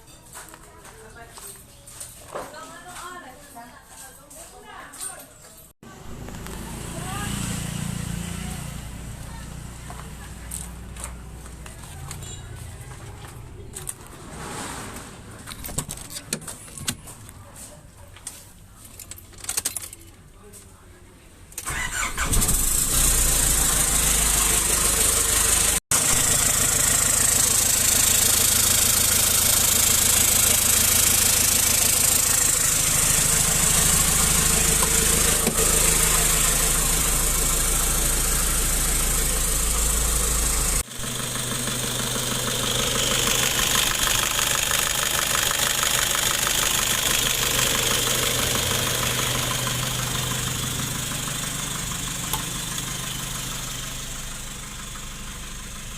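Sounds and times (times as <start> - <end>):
diesel engine starting and running: 5.8 - 16.7, 21.6 - 55.9.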